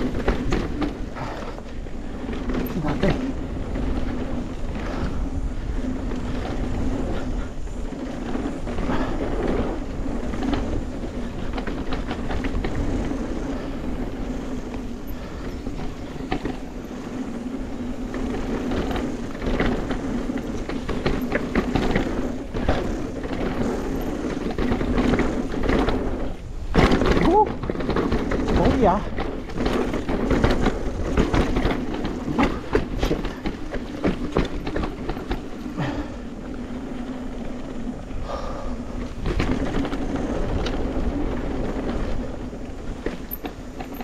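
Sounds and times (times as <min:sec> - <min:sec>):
bicycle clicks and rattles: 0:00.0 - 0:44.0
bicycle tyres rolling: 0:00.0 - 0:44.0
wind on microphone: 0:00.0 - 0:44.0.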